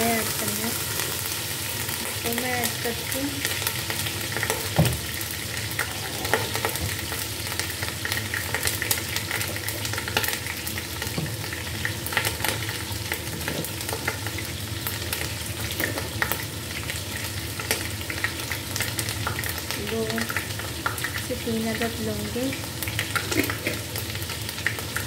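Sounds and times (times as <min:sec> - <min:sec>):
chicken frying in oil: 0:00.0 - 0:25.0
oil crackling and popping: 0:00.0 - 0:25.0.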